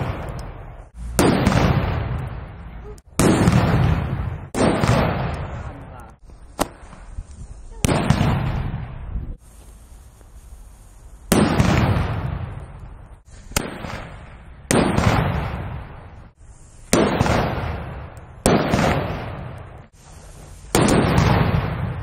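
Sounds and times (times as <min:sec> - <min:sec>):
firecrackers exploding with echo: 0:00.0 - 0:22.0.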